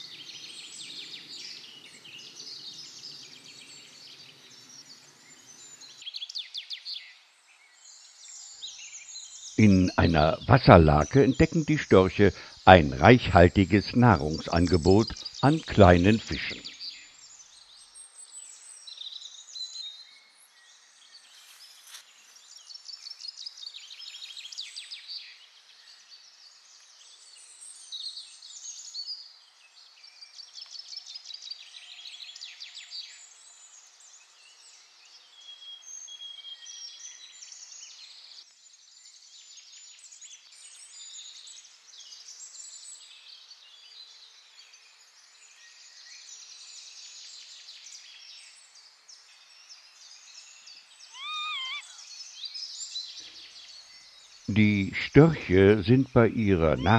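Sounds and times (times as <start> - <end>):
faint outdoor hiss: 0.0 - 19.5, 20.5 - 24.9, 25.6 - 56.9
small birds chirping and trilling: 0.0 - 54.9.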